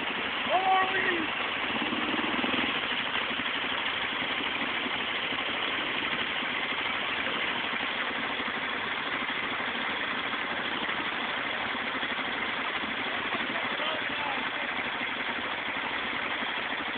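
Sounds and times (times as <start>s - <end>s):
engine idling: 0.0s - 16.9s.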